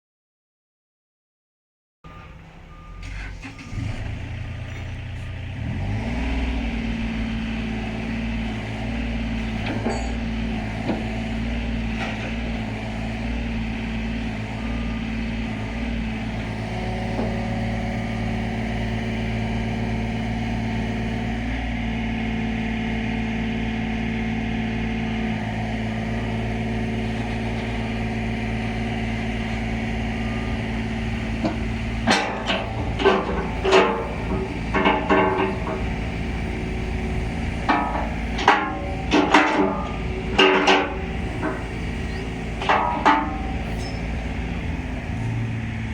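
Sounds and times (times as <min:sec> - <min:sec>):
mini excavator diesel engine: 0:02.1 - 0:45.9.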